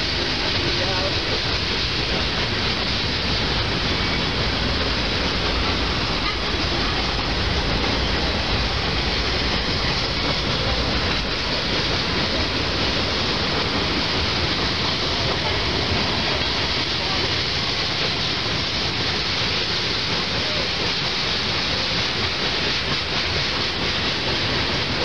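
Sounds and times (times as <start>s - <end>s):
freight train wheels on rails: 0.0s - 25.0s.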